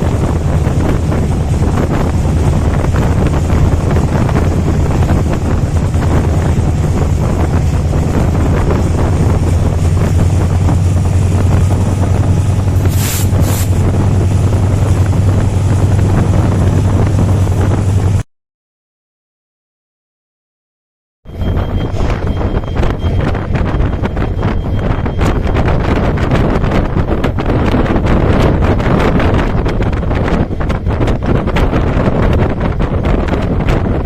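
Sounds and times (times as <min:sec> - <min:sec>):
locomotive engine humming: 0:00.0 - 0:18.2, 0:21.3 - 0:34.0
wind on microphone: 0:00.0 - 0:18.2, 0:21.3 - 0:34.0.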